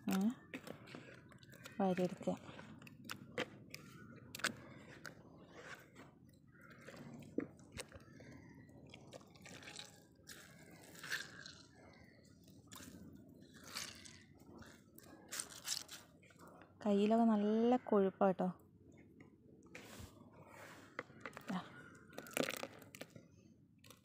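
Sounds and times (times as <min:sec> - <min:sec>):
wet hands squelching paste: 0:00.0 - 0:16.5, 0:19.7 - 0:24.0.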